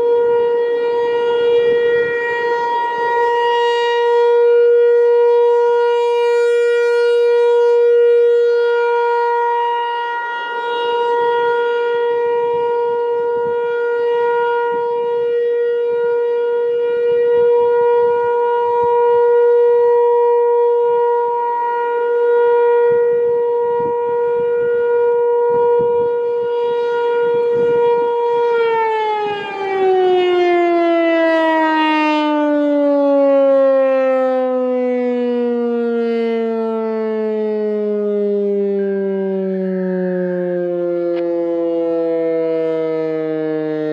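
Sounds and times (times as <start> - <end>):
mechanical warning siren: 0.0 - 43.9.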